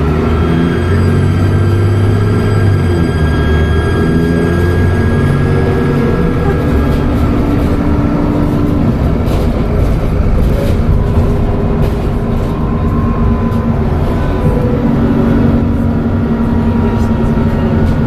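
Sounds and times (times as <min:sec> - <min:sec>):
bus diesel engine rumbling: 0:00.0 - 0:18.0
hum: 0:00.0 - 0:18.0.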